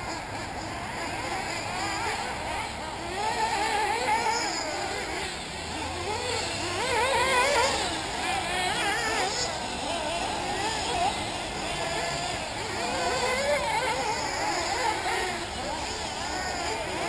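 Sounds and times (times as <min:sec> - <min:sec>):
model car engines buzzing and revving: 0:00.0 - 0:17.0.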